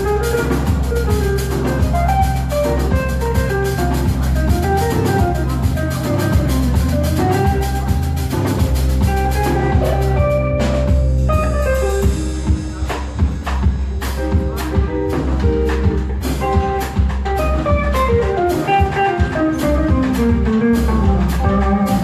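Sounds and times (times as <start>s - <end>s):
drum cymbal pattern: 0.0s - 22.0s
live band playing folk song: 0.0s - 22.0s.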